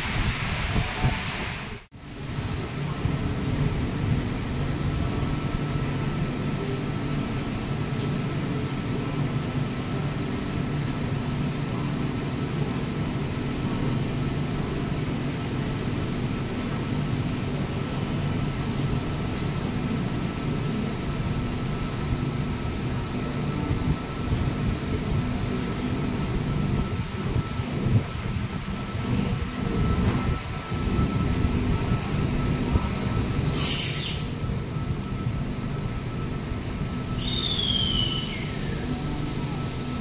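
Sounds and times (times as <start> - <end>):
train pulling in: 0.0 - 40.0
thin steady whine: 2.8 - 40.0.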